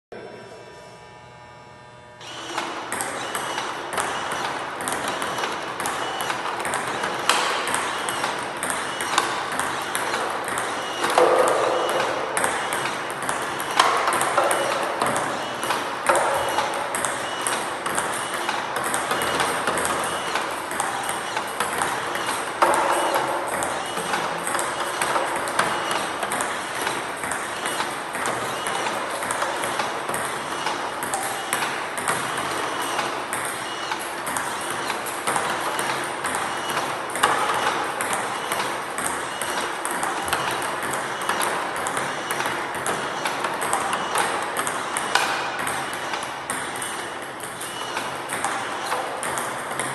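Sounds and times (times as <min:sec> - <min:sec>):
table tennis ball clicks: 0:02.5 - 0:49.9.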